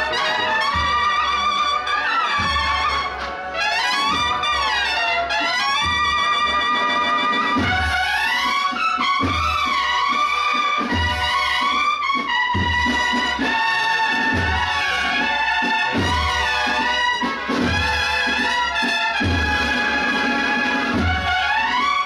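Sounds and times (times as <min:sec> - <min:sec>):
brass melody: 0:00.0 - 0:22.0.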